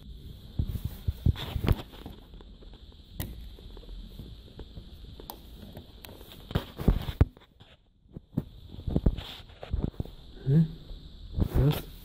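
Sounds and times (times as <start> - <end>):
faint high whine: 0.0 - 12.0
handling noise on plastic: 0.4 - 10.2.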